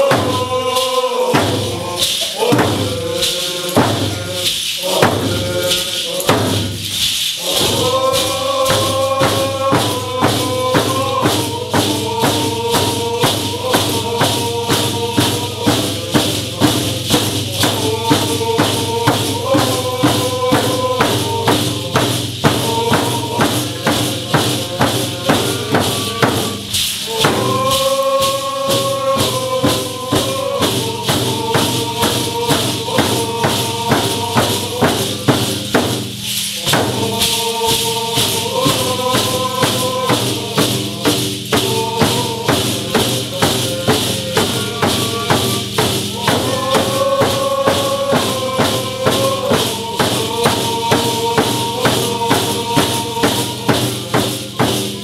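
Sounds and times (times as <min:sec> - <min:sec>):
drums beating steady rhythm: 0:00.0 - 0:55.0
group of voices singing: 0:00.0 - 0:55.0.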